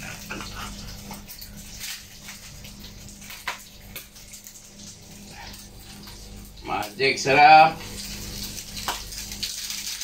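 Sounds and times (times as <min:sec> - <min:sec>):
stove hiss and hum: 0:00.0 - 0:10.0.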